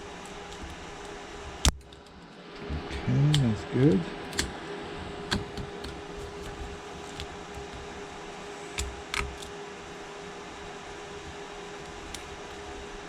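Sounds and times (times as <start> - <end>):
small fan humming: 0.0 - 13.0.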